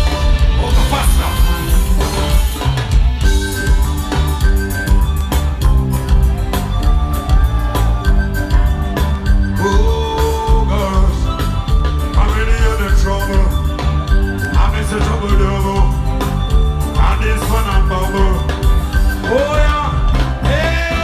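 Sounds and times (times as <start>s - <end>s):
heavy bass line: 0.0s - 21.0s
held melody voice: 0.0s - 21.0s
steady drum beat: 0.0s - 21.0s.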